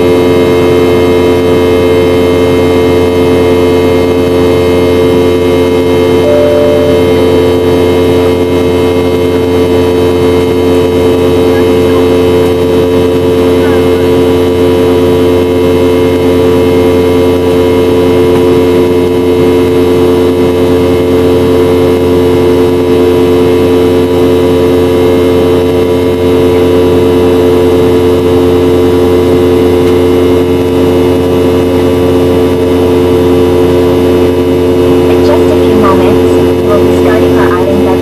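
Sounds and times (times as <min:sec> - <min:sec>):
jet engine drone in cabin: 0:00.0 - 0:38.0.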